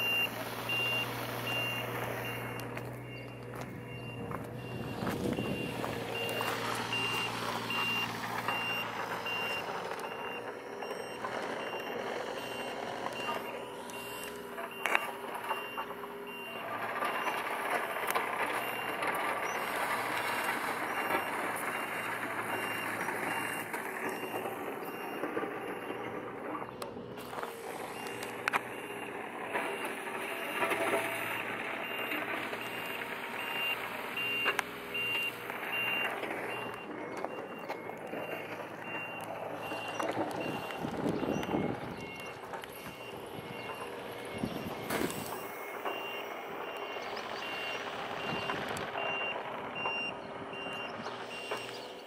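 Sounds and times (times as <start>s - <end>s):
high electronic warning beeps: 0.0s - 52.0s
passing road vehicles: 0.0s - 52.0s.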